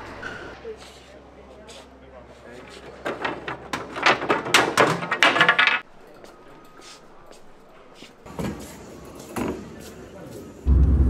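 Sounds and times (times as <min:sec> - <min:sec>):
faint store background noise: 0:00.0 - 0:10.7.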